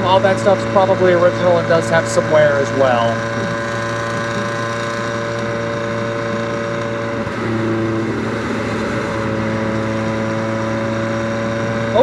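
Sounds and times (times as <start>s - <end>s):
car engine cruising: 0.0s - 12.0s.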